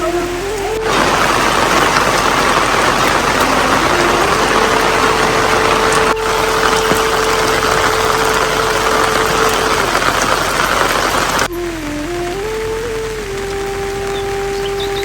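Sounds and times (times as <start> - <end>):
heavy rain pouring: 0.0 - 15.0
held musical note: 0.0 - 15.0.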